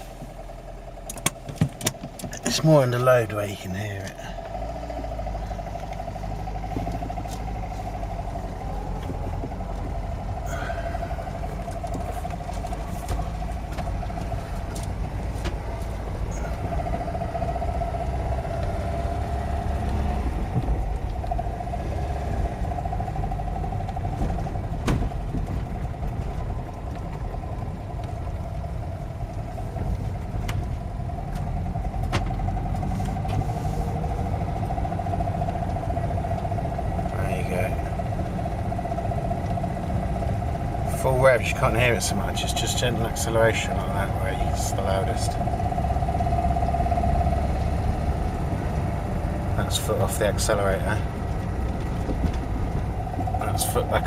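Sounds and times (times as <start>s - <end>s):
engine running under load: 0.0s - 54.0s.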